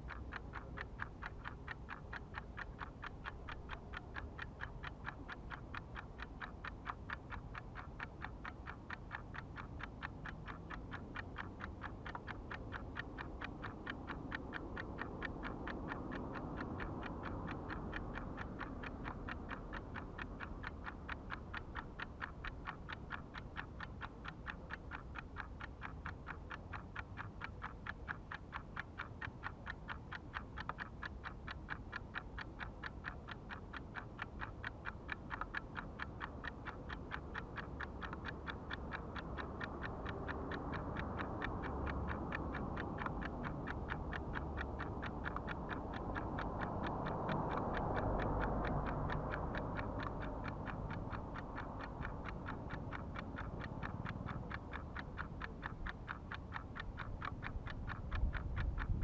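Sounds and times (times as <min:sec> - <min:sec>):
low background rumble: 0:00.0 - 0:59.0
steady ticking: 0:00.0 - 0:59.0.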